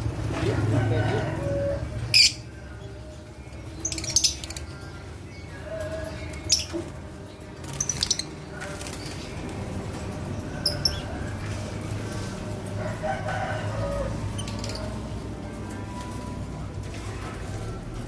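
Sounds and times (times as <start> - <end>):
birds squawking and chirping: 0.0 - 18.0.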